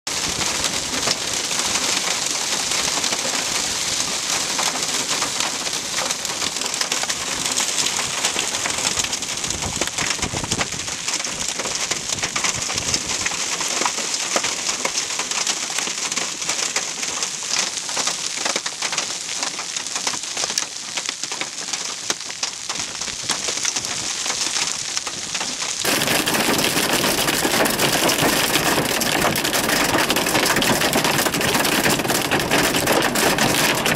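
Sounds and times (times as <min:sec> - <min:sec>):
hail and rain pelting ground: 0:00.1 - 0:33.9
hail striking vehicle: 0:04.3 - 0:33.9.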